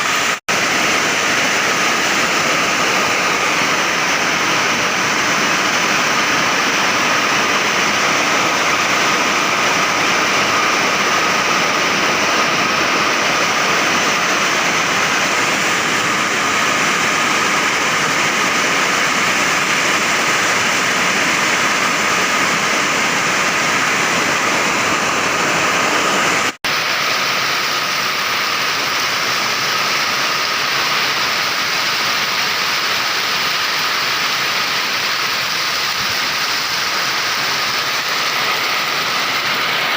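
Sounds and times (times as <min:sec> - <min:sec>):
heavy downpour: 0:00.0 - 0:39.9
strong wind: 0:00.0 - 0:39.9.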